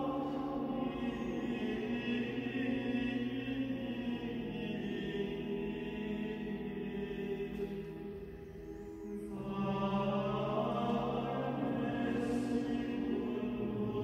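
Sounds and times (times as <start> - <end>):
slow chanted singing: 0.0 - 14.0.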